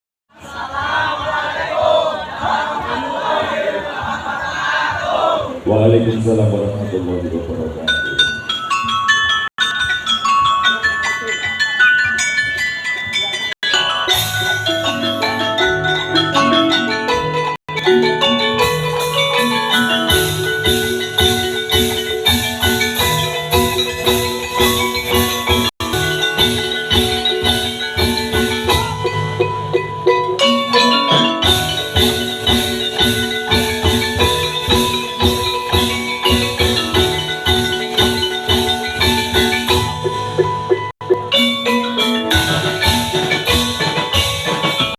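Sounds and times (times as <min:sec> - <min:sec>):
pitched percussion ensemble: 0:00.3 - 0:44.9.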